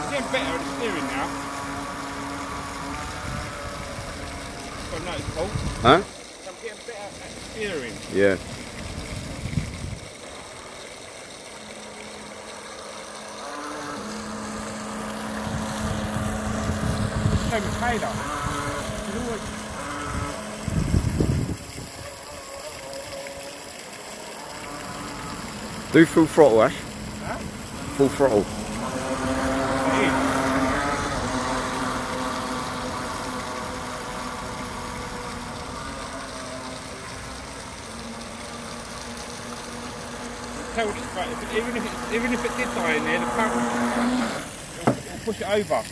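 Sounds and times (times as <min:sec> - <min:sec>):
model speedboat motor drone: 0:00.0 - 0:45.9.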